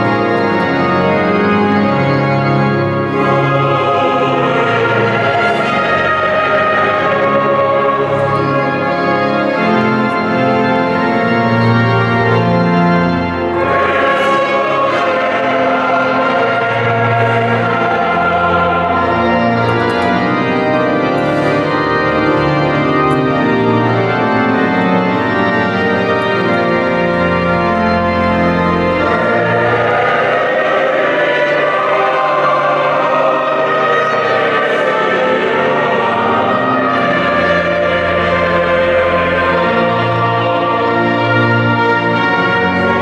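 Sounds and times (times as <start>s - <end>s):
church organ playing chords: 0.0s - 43.0s.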